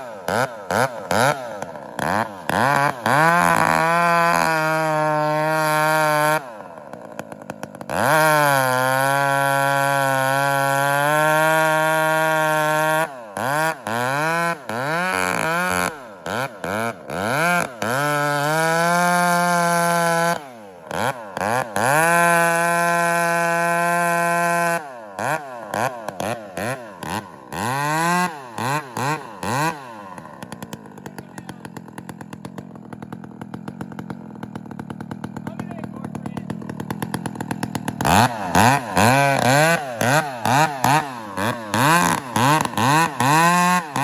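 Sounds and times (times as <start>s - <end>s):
chainsaw idling: 0.0s - 44.0s
chainsaw revving: 0.0s - 44.0s.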